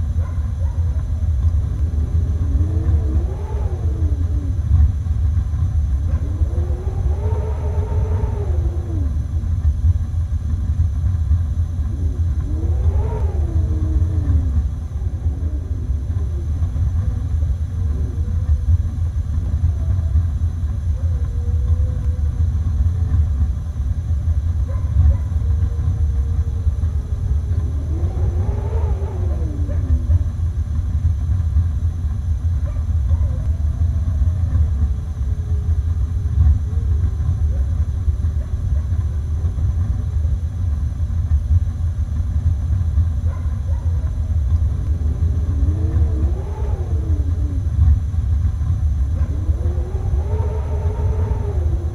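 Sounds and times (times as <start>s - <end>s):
wolves howling: 0.0s - 9.7s, 11.6s - 23.5s, 24.6s - 31.4s, 32.6s - 40.1s, 43.2s - 51.9s
snowstorm wind rumble: 0.0s - 51.9s.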